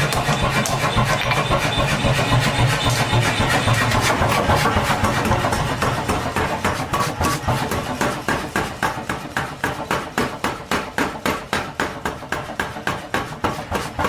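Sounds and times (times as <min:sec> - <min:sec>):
forging hammer striking steel: 0:00.0 - 0:14.0.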